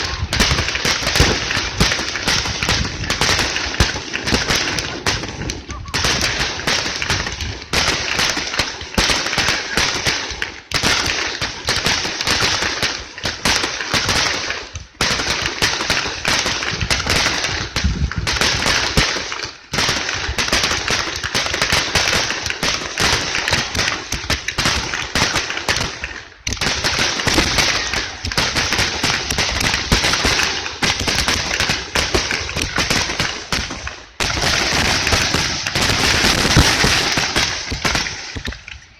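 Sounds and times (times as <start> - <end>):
fireworks cracking and popping: 0.0 - 38.9.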